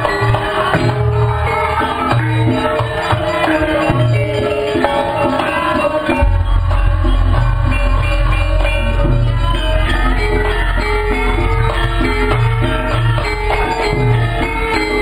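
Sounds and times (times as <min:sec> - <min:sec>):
gamelan gongs playing: 0:00.0 - 0:15.0.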